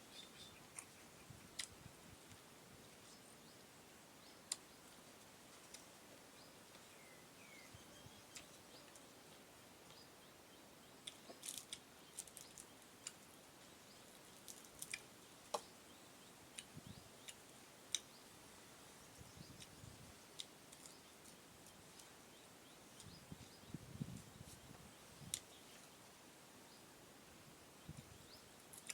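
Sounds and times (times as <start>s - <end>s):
low steady hiss: 0.0s - 28.9s.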